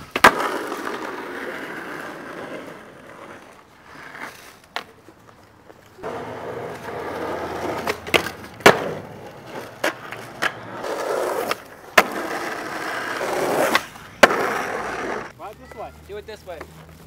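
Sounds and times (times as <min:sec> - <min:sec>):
skateboard clacking on pavement: 0:00.0 - 0:15.4
skateboard wheels rolling on asphalt: 0:00.0 - 0:17.0.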